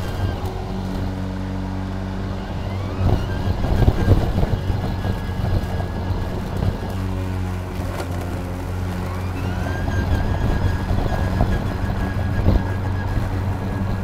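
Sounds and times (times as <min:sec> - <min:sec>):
lawn mower cutting grass: 0:00.0 - 0:14.0
rising whine: 0:00.0 - 0:14.0.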